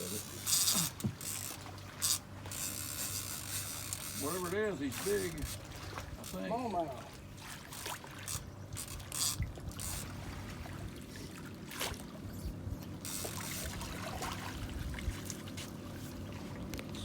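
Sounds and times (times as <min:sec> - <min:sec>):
low steady rumble: 0:00.0 - 0:17.0
water splashing and trickling: 0:00.0 - 0:17.0.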